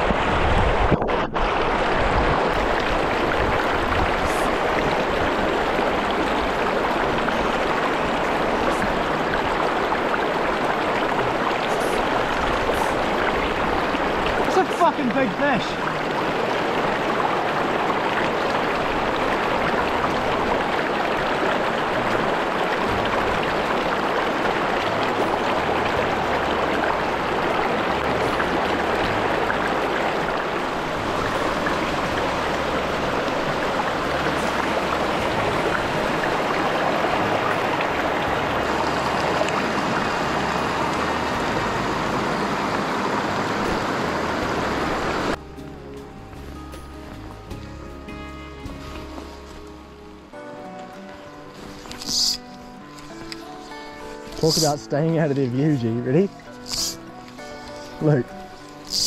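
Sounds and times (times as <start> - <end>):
river rushing over stones: 0.0 - 46.3, 48.8 - 59.0.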